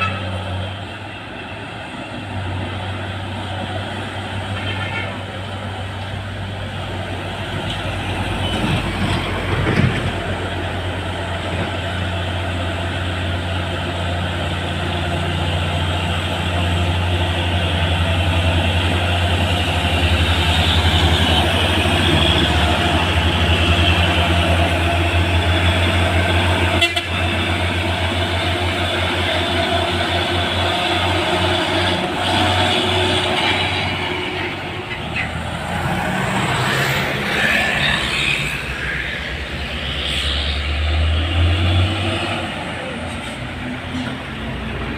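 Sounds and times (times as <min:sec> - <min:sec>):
diesel truck engine droning: 0:00.0 - 0:44.9.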